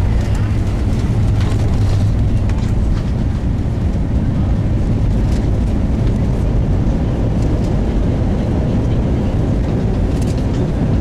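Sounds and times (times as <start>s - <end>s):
plane landing rumble in cabin: 0.0s - 11.0s.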